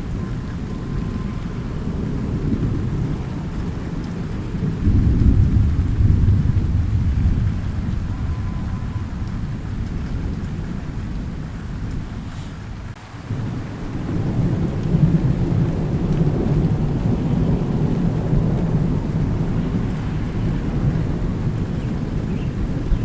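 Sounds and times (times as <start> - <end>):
steady rain: 0.0 - 23.0
thunder rumbling: 0.0 - 23.0.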